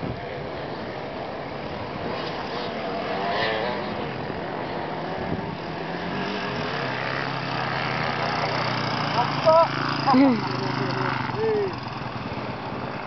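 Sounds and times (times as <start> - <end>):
dirt bike engine revving: 2.1 - 13.0.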